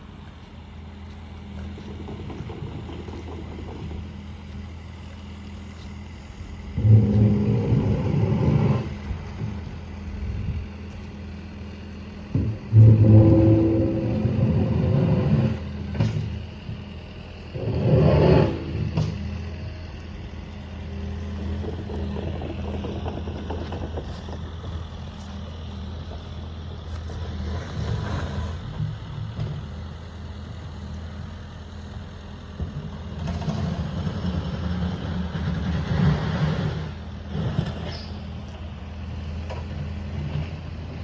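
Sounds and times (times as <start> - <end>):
low engine hum: 0.0 - 41.0.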